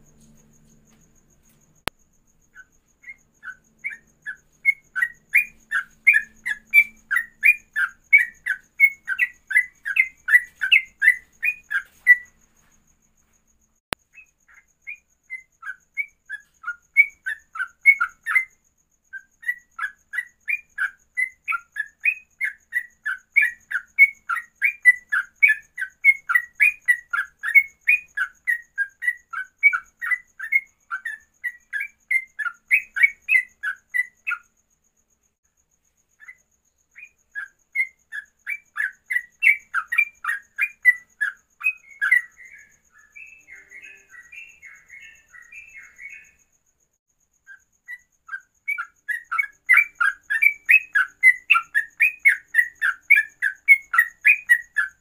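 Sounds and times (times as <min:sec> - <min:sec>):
bird singing whistled notes: 0:02.4 - 0:12.8, 0:14.0 - 0:34.6, 0:36.0 - 0:46.6, 0:47.4 - 0:55.0.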